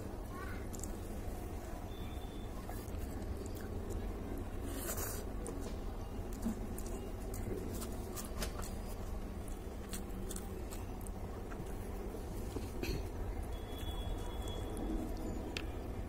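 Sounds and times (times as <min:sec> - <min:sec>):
mouth chewing sounds: 0:00.4 - 0:16.0.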